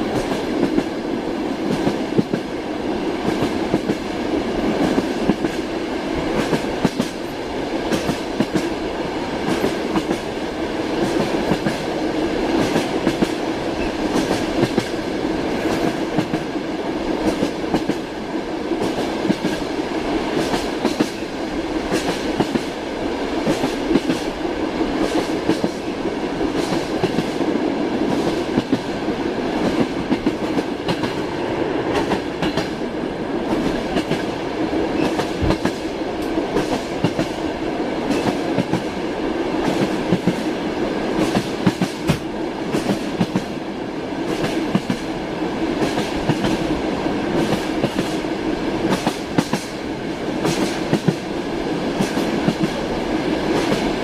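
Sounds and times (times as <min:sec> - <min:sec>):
train carriage rumble and hum: 0:00.0 - 0:54.0.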